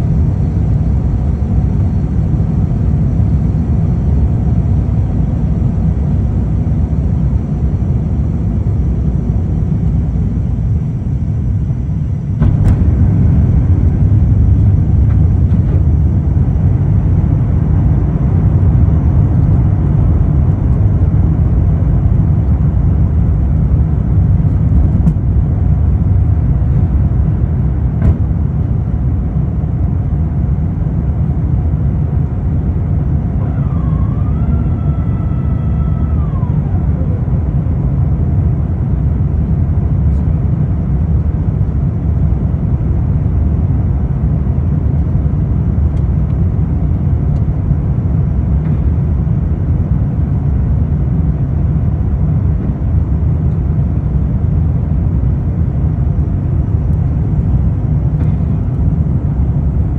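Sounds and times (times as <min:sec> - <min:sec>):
airliner cabin roar: 0:00.0 - 0:59.9
faint whine: 0:00.0 - 0:59.9.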